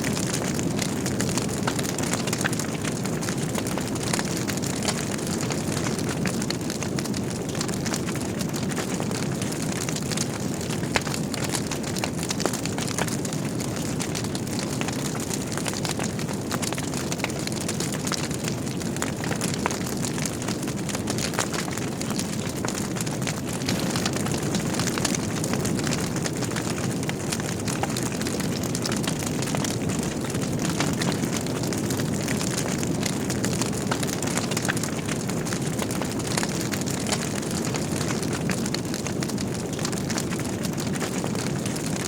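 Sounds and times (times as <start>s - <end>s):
fire crackling and popping: 0.0s - 42.0s
fireplace flames rushing: 0.0s - 42.0s.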